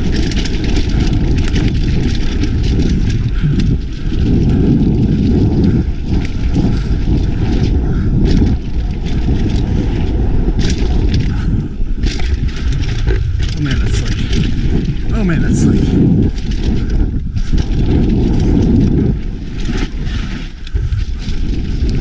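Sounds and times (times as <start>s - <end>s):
bike rattling over bumps: 0.0s - 22.0s
bike tyres on dirt: 0.0s - 22.0s
wind on microphone: 0.0s - 22.0s.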